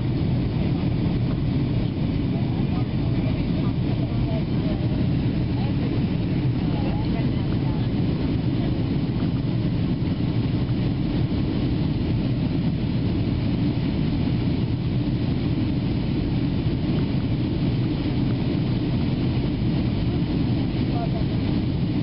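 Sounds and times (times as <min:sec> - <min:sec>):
airplane cabin engine drone: 0:00.0 - 0:22.0
rushing air: 0:00.0 - 0:22.0.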